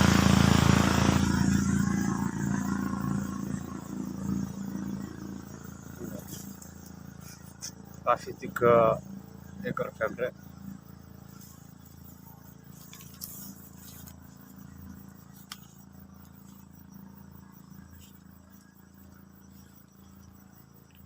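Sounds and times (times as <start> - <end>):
insect drone: 0.0 - 21.0
low even hum: 0.0 - 21.0.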